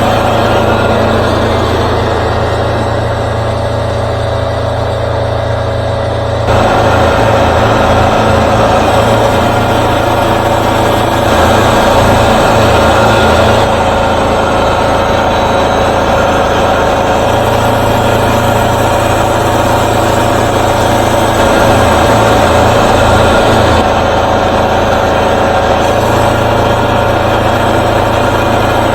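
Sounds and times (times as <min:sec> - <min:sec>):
sawmill engine running: 0:00.0 - 0:28.9.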